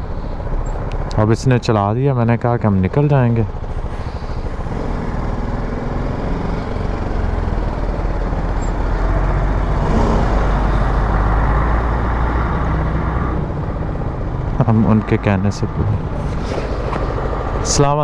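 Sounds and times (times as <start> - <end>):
lorry diesel engine running: 0.0 - 18.0
motorcycle engine at low speed: 0.0 - 18.0.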